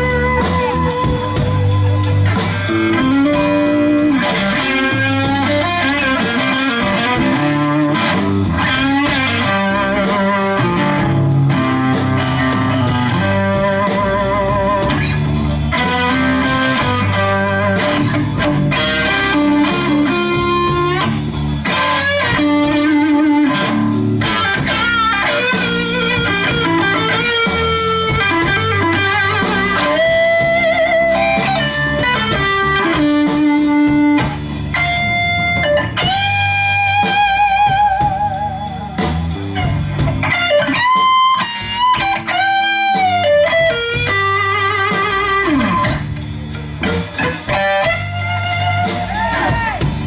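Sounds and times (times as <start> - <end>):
blues band playing: 0.0 - 50.0
electric guitar lead: 0.0 - 50.0.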